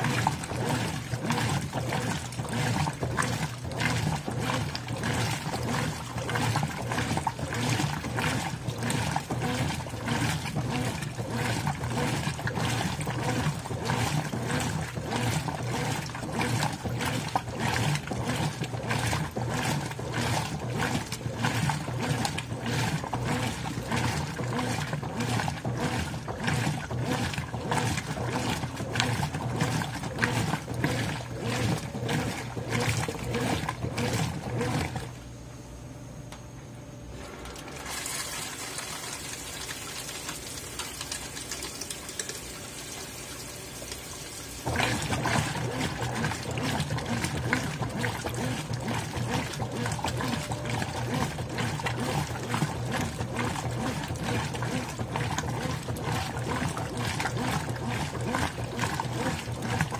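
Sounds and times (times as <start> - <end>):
washing machine churning: 0.0 - 35.6, 36.8 - 59.9.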